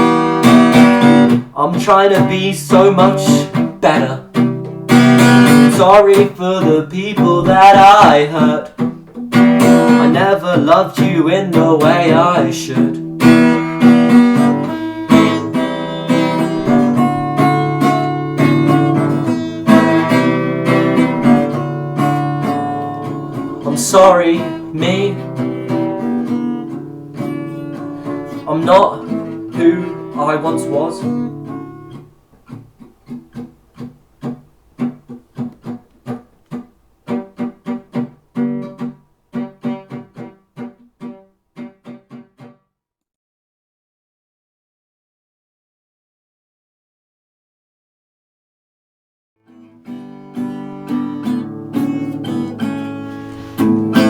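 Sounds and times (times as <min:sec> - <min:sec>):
acoustic guitar strumming chords: 0:00.0 - 0:42.6, 0:49.4 - 0:54.0.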